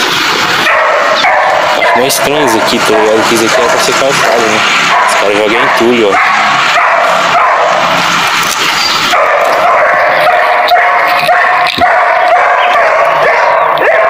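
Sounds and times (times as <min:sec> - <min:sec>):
dogs barking: 0:00.2 - 0:14.0.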